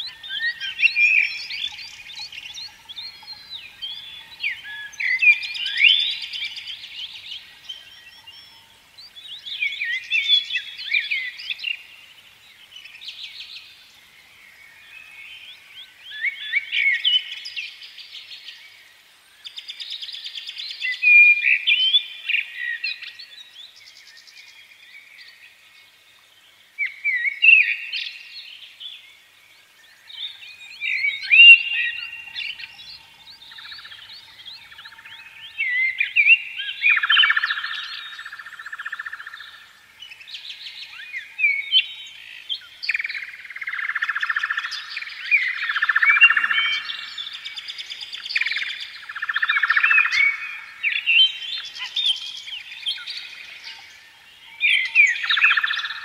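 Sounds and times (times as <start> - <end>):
birds chirping and warbling: 0.0 - 56.0.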